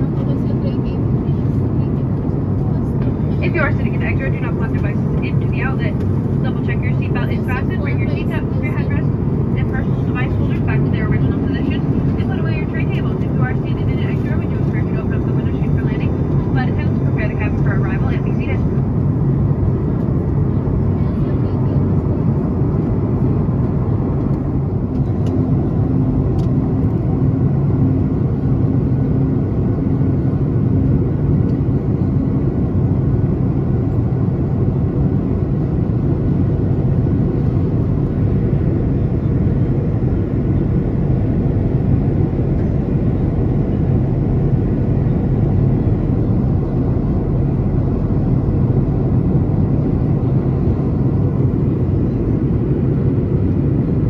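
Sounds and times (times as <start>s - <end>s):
jet engine drone: 0.0s - 54.0s.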